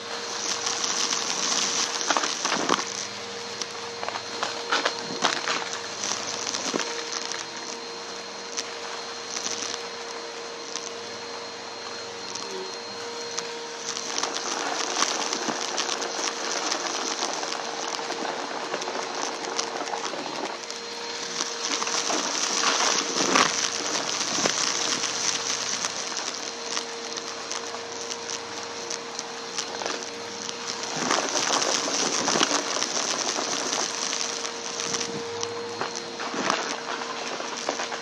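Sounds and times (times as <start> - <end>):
vacuum cleaner motor hum: 0.0 - 38.0.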